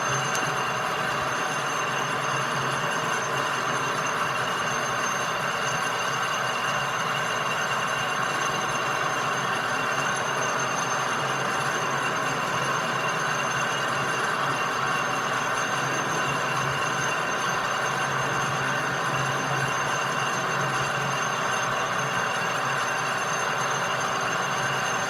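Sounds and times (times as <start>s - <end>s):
machine hissing and whining: 0.0s - 25.0s.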